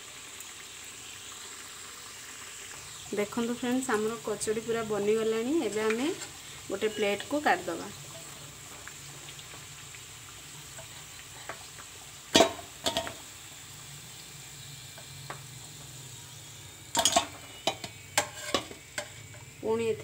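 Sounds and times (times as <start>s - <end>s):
hot oil sizzling in a frying pan: 0.0s - 20.0s.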